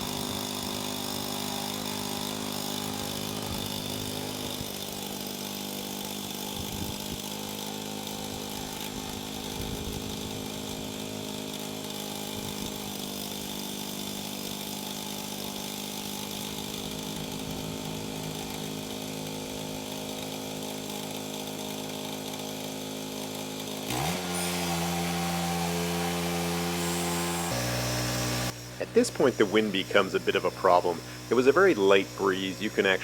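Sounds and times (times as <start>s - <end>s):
bandsaw sawing log: 0.0s - 33.0s
sawmill engine running: 0.0s - 33.0s.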